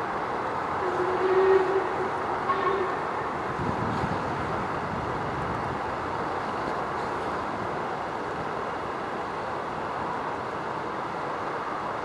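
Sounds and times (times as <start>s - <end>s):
distant steam locomotive rumble: 0.0s - 12.0s.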